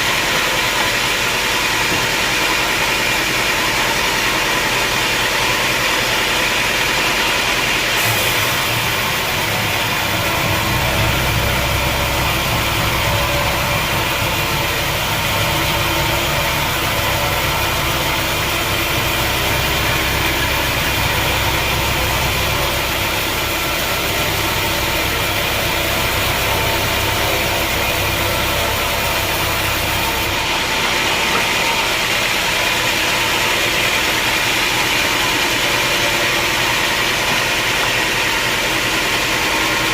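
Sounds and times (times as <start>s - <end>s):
deep machine hum: 0.0s - 39.9s
sawmill machinery running: 0.0s - 39.9s.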